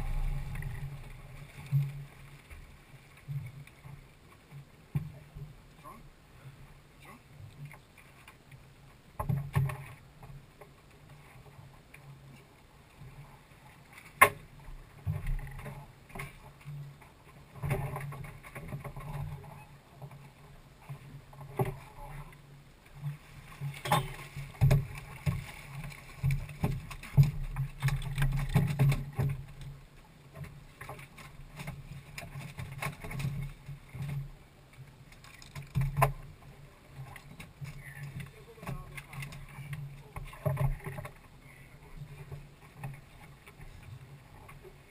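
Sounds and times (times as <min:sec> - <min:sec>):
knocks and thuds in a boat: 0:00.0 - 0:06.1, 0:07.1 - 0:44.9.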